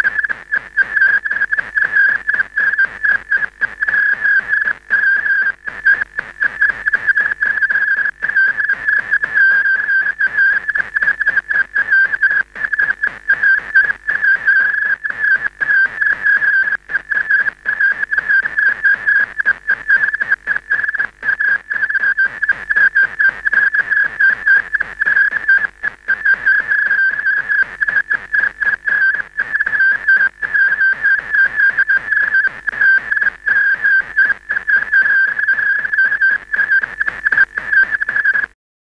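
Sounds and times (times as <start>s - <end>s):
crackly signal dropouts: 0.0s - 38.6s
high electronic whistle: 0.2s - 38.4s.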